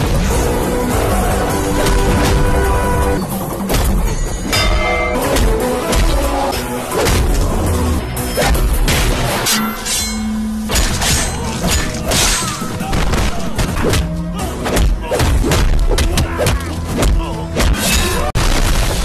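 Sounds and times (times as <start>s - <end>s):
rhythmic film score: 0.0s - 18.7s.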